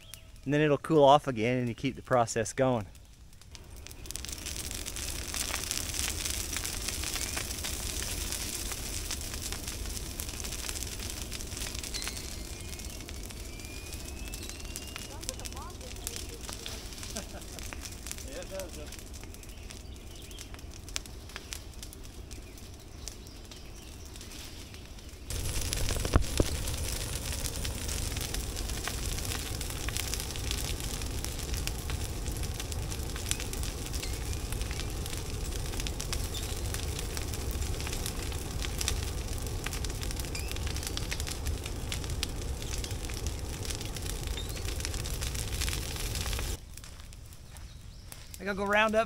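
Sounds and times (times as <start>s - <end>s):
fire crackling and popping: 0.0s - 49.0s
low rush of fire: 0.0s - 49.0s.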